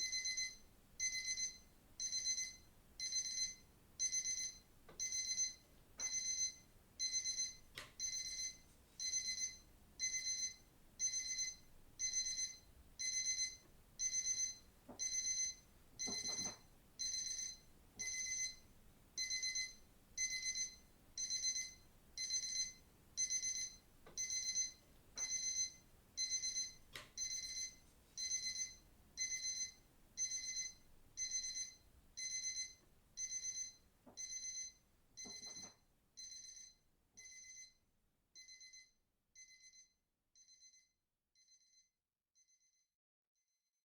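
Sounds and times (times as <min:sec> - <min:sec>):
digital watch alarm beeping: 0:00.0 - 0:18.6, 0:19.2 - 0:37.8, 0:38.4 - 0:42.8.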